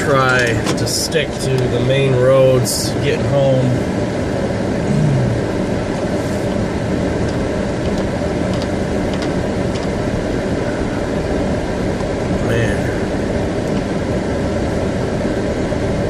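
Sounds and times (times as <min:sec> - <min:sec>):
car engine drone: 0:00.0 - 0:16.0
tyre and road noise on snow: 0:00.0 - 0:16.0.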